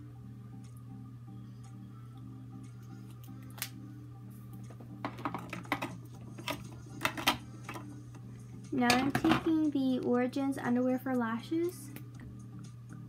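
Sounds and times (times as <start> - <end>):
faint background music: 0.0 - 13.0
steady low hum: 0.0 - 13.0.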